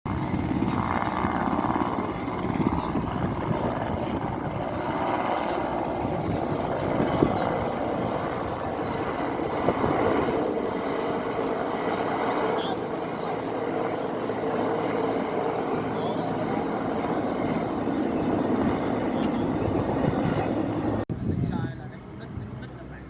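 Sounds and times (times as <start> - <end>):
helicopter flying overhead: 0.1 - 23.0.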